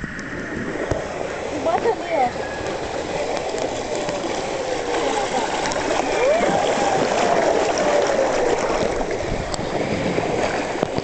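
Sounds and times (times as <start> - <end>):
water rushing and splashing: 0.0 - 11.0.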